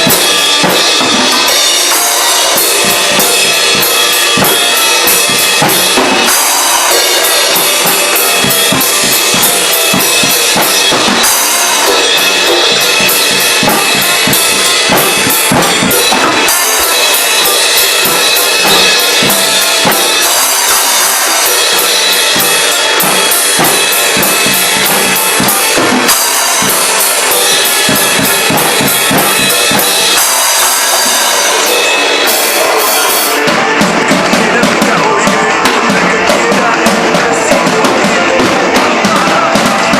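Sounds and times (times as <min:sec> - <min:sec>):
drum kit playing a beat: 0:00.0 - 0:39.9
rock song with guitar and vocals: 0:00.0 - 0:39.9.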